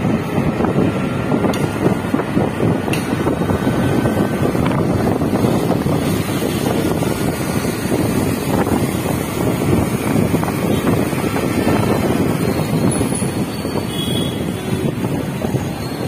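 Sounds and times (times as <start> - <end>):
motorbike running: 0.0 - 16.0
road noise: 0.0 - 16.0
wind buffeting microphone: 0.0 - 16.0.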